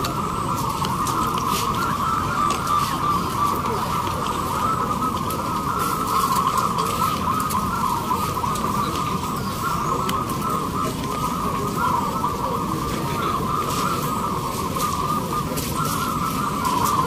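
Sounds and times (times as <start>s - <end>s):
doves cooing: 0.0s - 17.0s
low crowd murmur: 0.0s - 17.0s.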